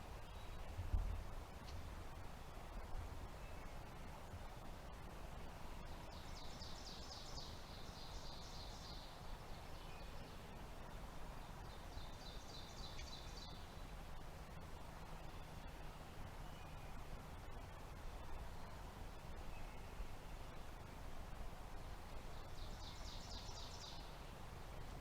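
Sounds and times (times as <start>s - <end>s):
faint outdoor background noise: 0.0s - 25.0s.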